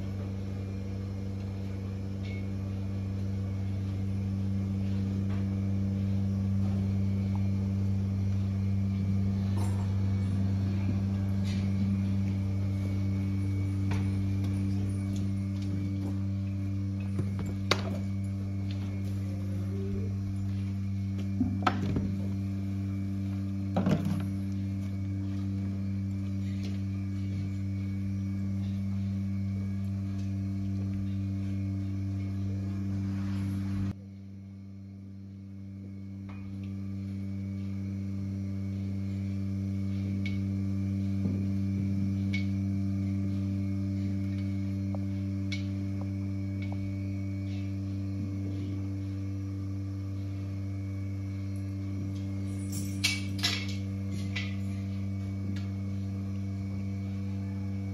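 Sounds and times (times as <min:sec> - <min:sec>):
electric hum of equipment: 0:00.0 - 0:57.9.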